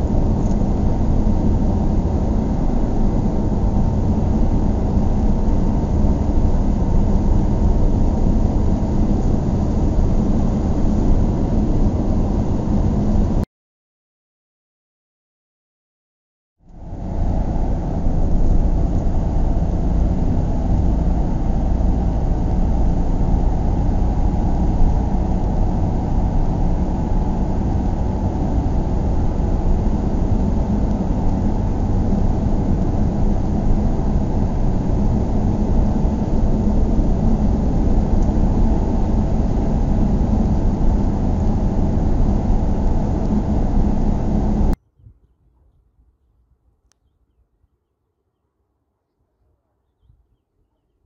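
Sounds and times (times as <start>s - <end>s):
road noise: 0.0s - 13.4s, 16.6s - 44.8s
vehicle engine rumble: 0.0s - 13.4s, 16.6s - 45.2s.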